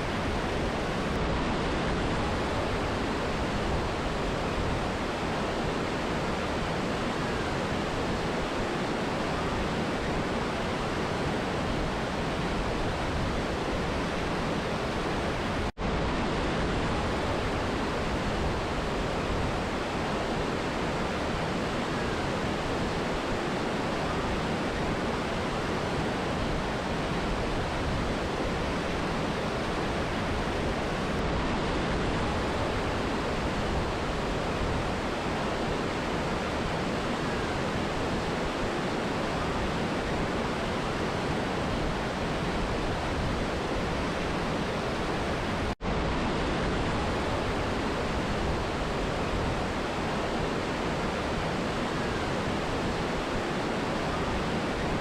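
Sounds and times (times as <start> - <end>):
river and waterfall rushing: 0.0 - 55.0.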